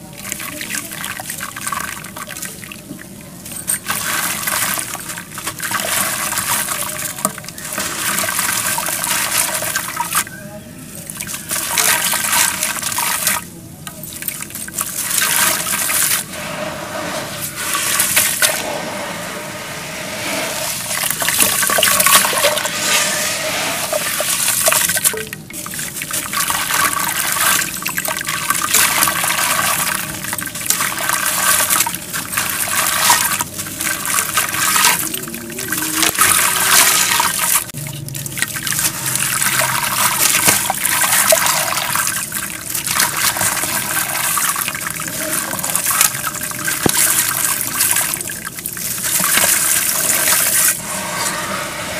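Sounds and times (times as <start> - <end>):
water sloshing and fizzing: 0.0 - 10.3, 11.0 - 51.8.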